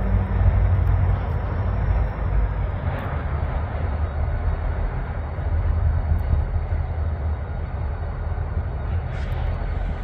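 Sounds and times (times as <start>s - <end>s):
diesel locomotives rumbling: 0.0s - 10.0s
road traffic passing: 0.0s - 10.0s.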